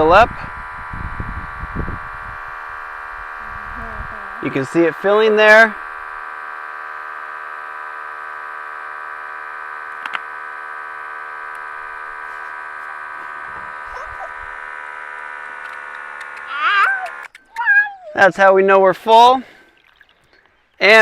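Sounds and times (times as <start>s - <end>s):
pump motor whining: 0.0s - 21.0s.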